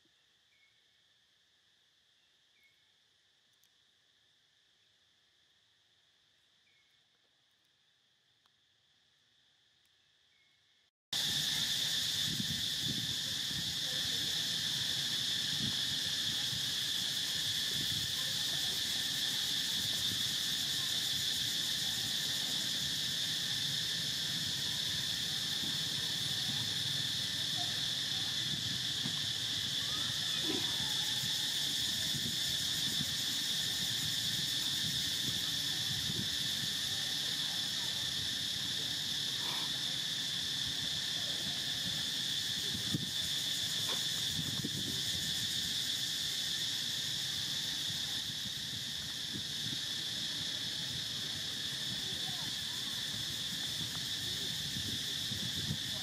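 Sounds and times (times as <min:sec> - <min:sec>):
insect chorus buzzing: 0:00.0 - 0:56.0.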